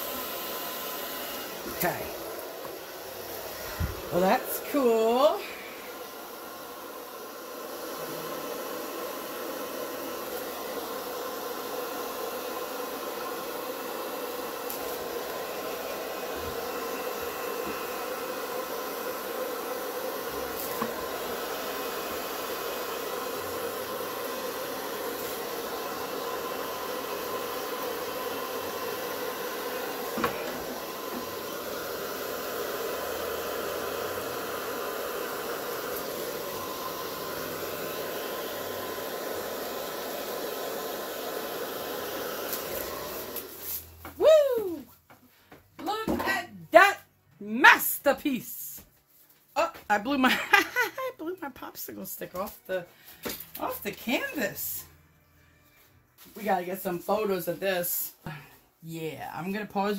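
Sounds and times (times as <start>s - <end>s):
hair dryer running: 0.0s - 48.0s, 50.0s - 51.0s, 51.8s - 54.8s.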